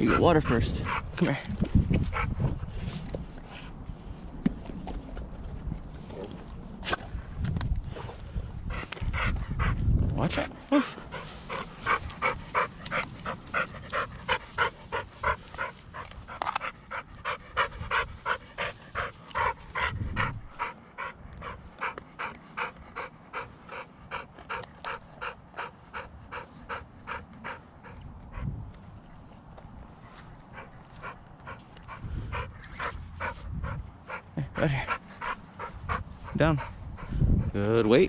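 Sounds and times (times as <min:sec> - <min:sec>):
dog panting: 0:00.0 - 0:03.8, 0:07.8 - 0:38.0.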